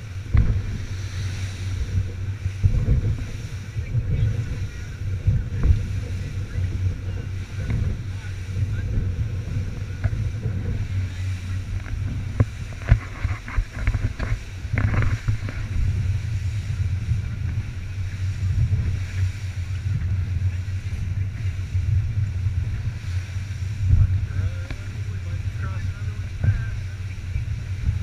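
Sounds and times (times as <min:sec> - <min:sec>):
boat motor droning: 0:00.0 - 0:28.0
hull slapping on waves: 0:00.0 - 0:28.0
wind on microphone: 0:00.0 - 0:28.0.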